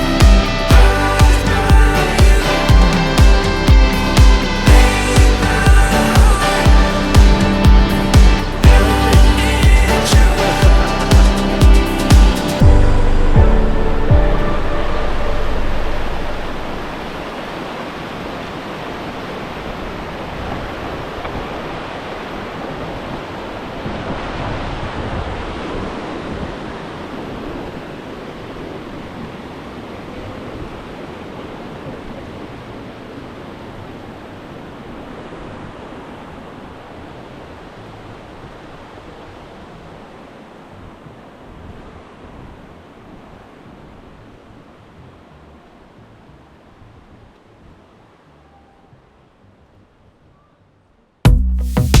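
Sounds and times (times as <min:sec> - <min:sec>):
rushing water: 0:00.0 - 0:50.1
wind: 0:00.0 - 0:51.3.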